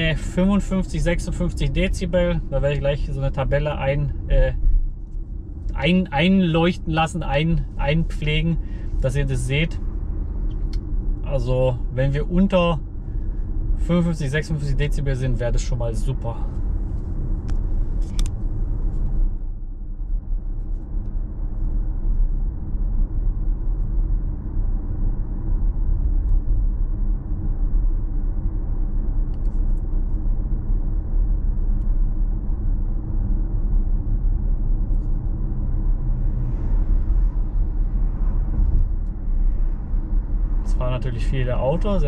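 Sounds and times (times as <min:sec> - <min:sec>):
low tyre and road rumble: 0:00.0 - 0:42.0.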